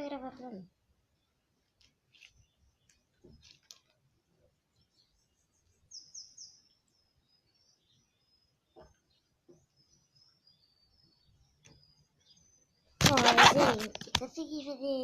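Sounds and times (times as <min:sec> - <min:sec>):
bird chirp: 0:00.0 - 0:14.8.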